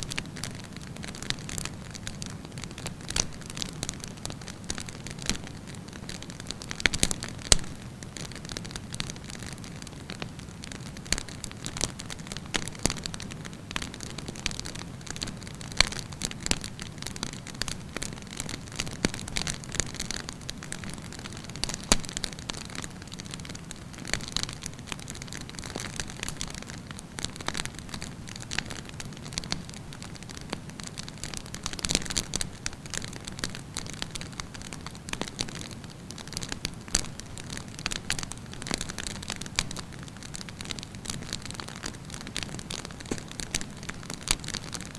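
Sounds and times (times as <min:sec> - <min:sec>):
logs crackling and popping: 0:00.0 - 0:44.9
campfire hissing: 0:00.1 - 0:44.9.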